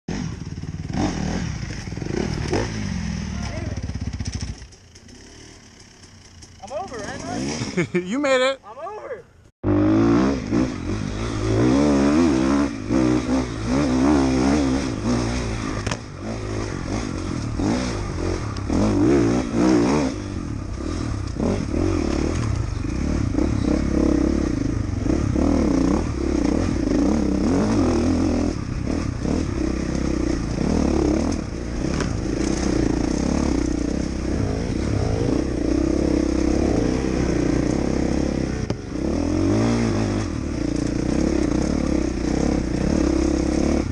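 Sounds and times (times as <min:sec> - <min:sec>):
dirt bike engine revving: 0:00.1 - 0:08.0, 0:09.6 - 0:43.9.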